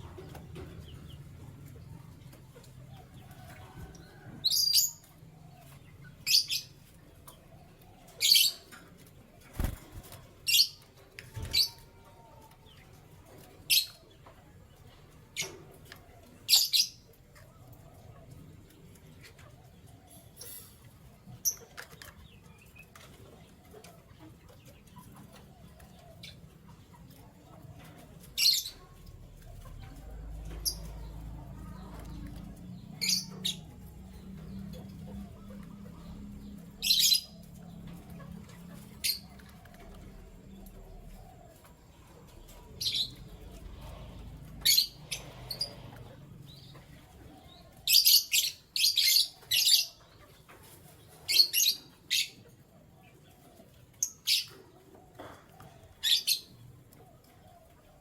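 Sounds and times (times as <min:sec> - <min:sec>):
canaries chirping: 0:00.0 - 0:57.8.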